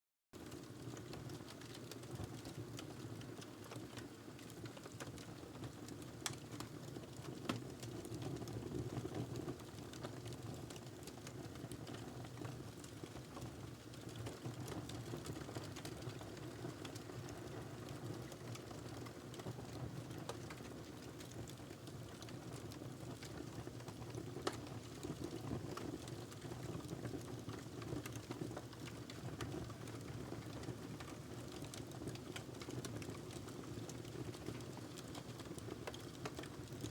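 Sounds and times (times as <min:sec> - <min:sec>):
log fire crackling: 0:00.5 - 0:36.9.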